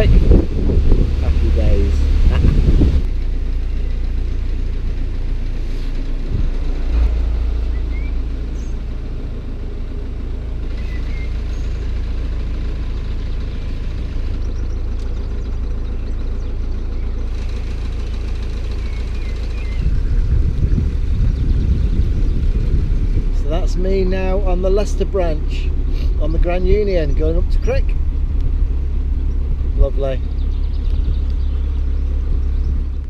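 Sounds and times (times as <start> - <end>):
boat engine rumbling: 0.0 - 33.0.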